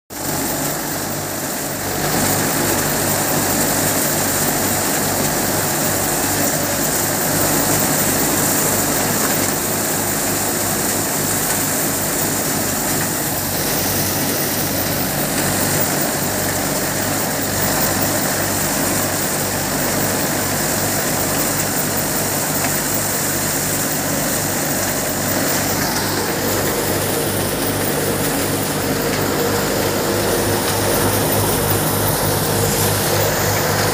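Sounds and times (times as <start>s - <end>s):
tractor diesel engine: 0.1s - 33.9s
thresher running under load: 0.2s - 33.9s.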